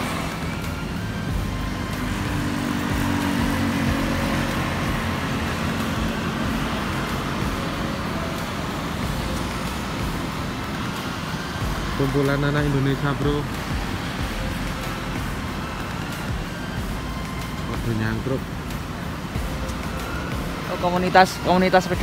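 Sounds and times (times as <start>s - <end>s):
scooters and cars passing: 0.0s - 22.0s.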